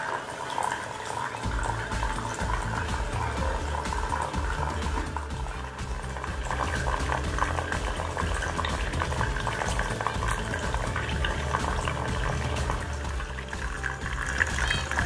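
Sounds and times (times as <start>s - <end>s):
fountain water trickling and splashing: 0.0s - 15.0s
low pump hum: 1.4s - 15.0s.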